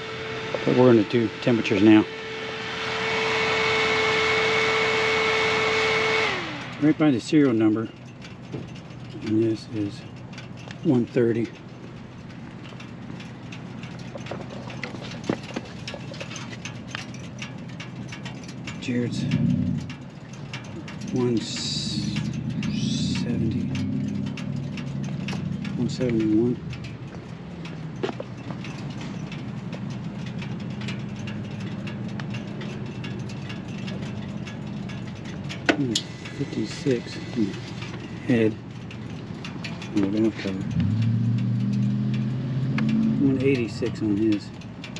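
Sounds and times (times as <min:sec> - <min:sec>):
cooling engine ticking: 0:00.0 - 0:44.9.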